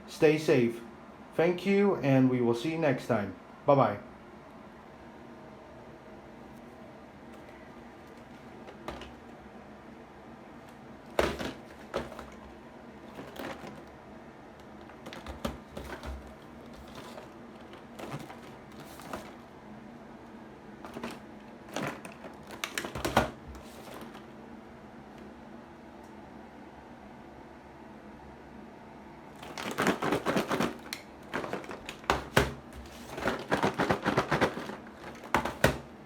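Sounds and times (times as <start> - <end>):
faint room hum: 0.0 - 36.0.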